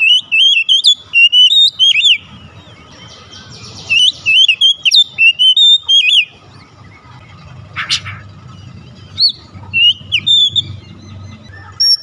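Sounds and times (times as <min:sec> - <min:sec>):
bird singing whistled notes: 0:00.0 - 0:07.1, 0:08.9 - 0:12.0.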